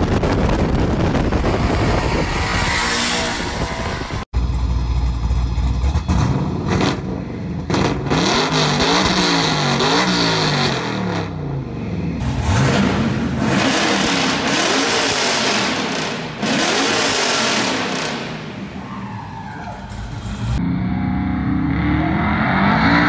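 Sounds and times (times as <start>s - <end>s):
car engine revving: 0.2s - 18.8s.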